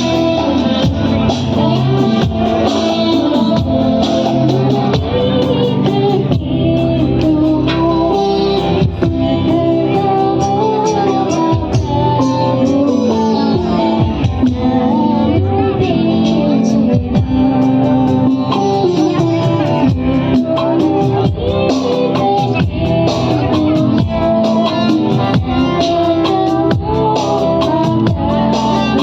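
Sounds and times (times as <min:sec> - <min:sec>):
band playing worship music: 0:00.0 - 0:29.0.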